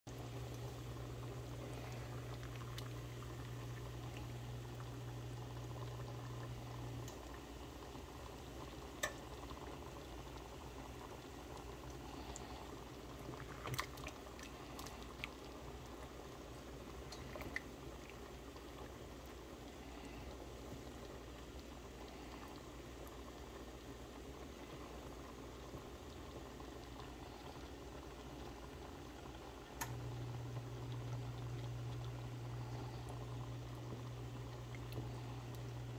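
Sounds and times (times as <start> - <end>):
sauce simmering and bubbling: 0.1 - 35.9
steady low hum: 0.1 - 35.9.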